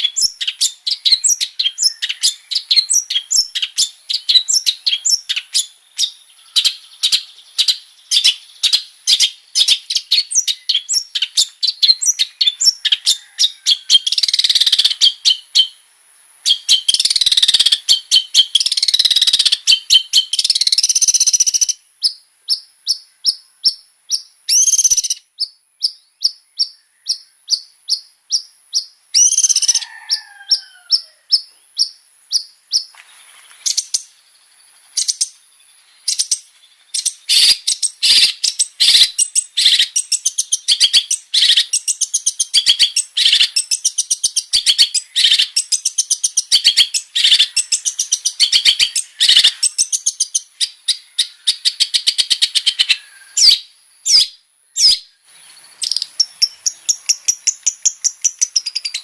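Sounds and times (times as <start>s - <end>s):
bird chirping and warbling: 0.0s - 15.8s, 16.5s - 59.0s.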